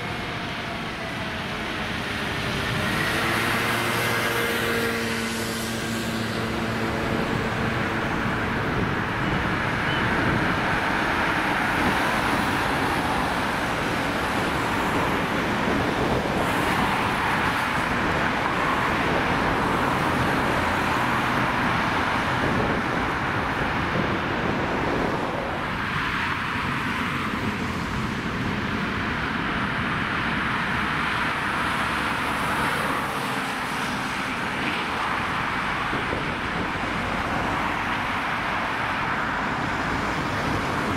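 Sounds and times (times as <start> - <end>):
road traffic passing: 0.0 - 40.9.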